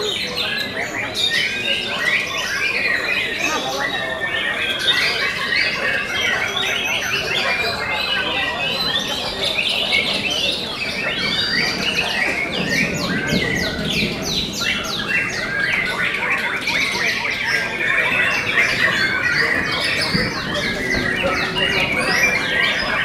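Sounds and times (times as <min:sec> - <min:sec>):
birds singing: 0:00.0 - 0:23.0.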